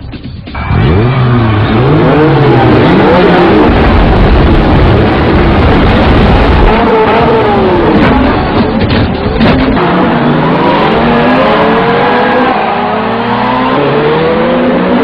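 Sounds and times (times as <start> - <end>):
car engine revving hard: 0.6 - 8.6, 9.5 - 15.0.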